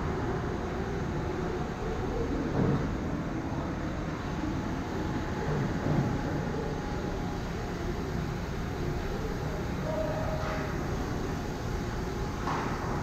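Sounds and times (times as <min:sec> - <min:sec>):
indoor ice rink rumble: 0:00.0 - 0:13.0.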